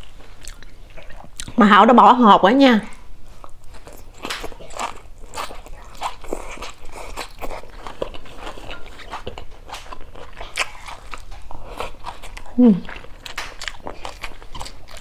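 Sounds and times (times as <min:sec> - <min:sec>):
person chewing food: 0:00.0 - 0:01.6, 0:03.3 - 0:15.0.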